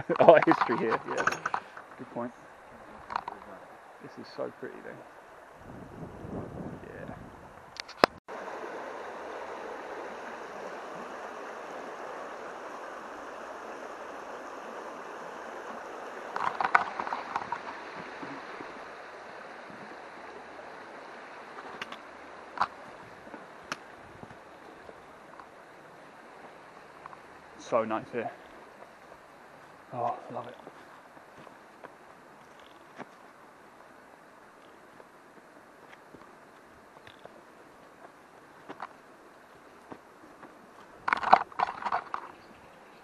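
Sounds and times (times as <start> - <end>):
small stream running: 0.0 - 43.0.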